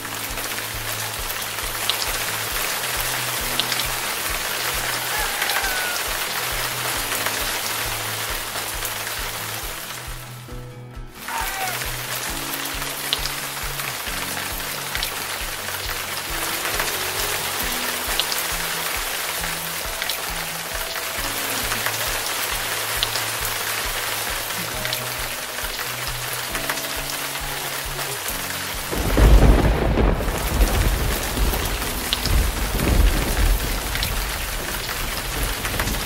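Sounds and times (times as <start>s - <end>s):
soft music with low notes: 0.0s - 36.0s
steady rain falling: 0.0s - 36.0s.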